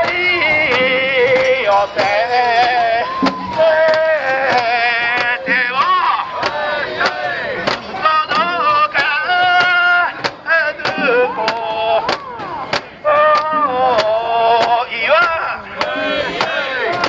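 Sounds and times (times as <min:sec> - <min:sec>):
men chanting a song: 0:00.0 - 0:17.0
wooden clacks in steady beat: 0:00.0 - 0:17.0.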